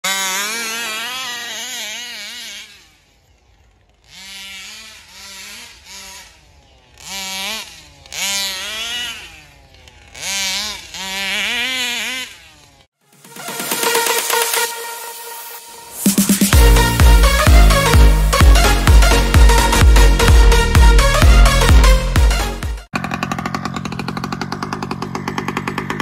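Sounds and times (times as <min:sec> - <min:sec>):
two-stroke engine revving: 0:00.0 - 0:26.0.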